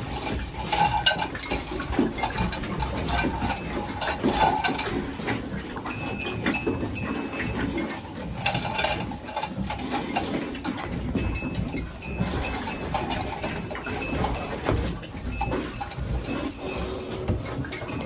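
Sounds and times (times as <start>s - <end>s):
cow shuffling in straw: 0.0s - 18.0s.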